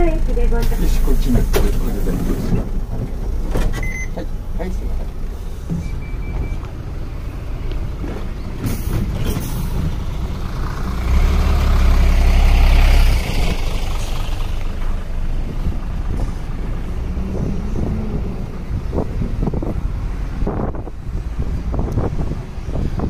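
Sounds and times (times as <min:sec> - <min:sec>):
road traffic noise: 0:00.0 - 0:23.0
heavy vehicle passing: 0:04.4 - 0:23.0.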